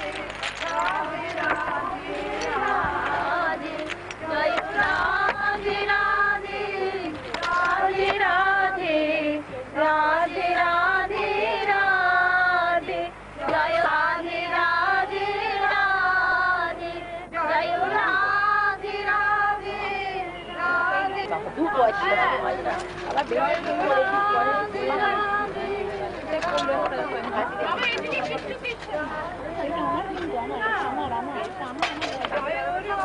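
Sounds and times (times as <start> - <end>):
person singing devotional song: 0.0 - 27.4.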